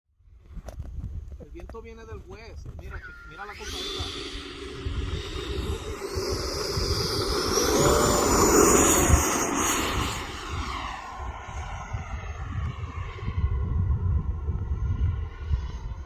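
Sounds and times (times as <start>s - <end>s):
wind buffeting microphone: 0.3s - 16.0s
jet model high whine: 2.5s - 16.0s.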